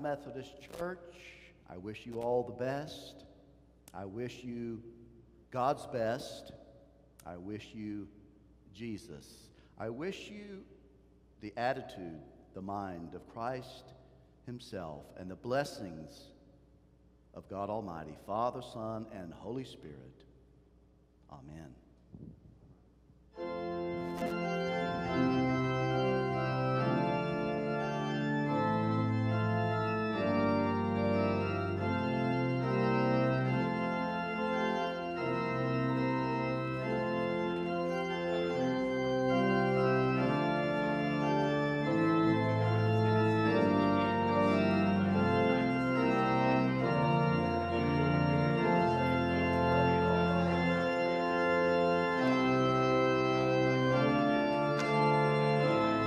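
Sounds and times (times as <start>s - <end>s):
church organ chords: 0.0s - 10.8s, 11.4s - 16.4s, 17.4s - 20.2s, 23.3s - 56.0s.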